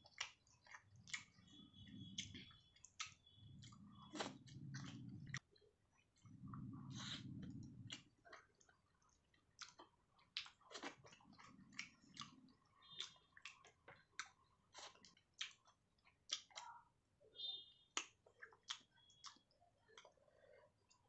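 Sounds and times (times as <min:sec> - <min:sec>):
wet chewing mouth clicks: 0:00.0 - 0:16.7, 0:17.9 - 0:21.0.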